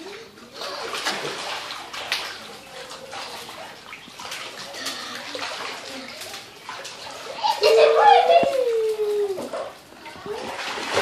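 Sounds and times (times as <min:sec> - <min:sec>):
water splashing in paddling pool: 0:00.0 - 0:11.0.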